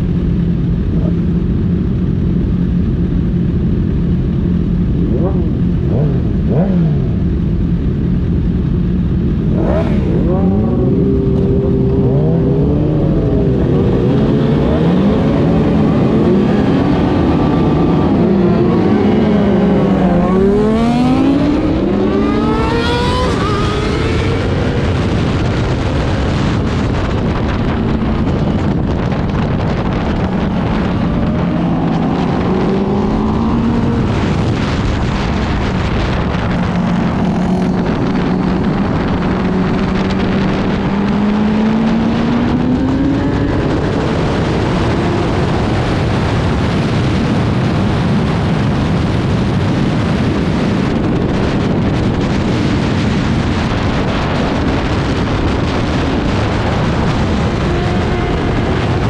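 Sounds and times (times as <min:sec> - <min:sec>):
motorbike engines revving: 0:00.0 - 0:59.0.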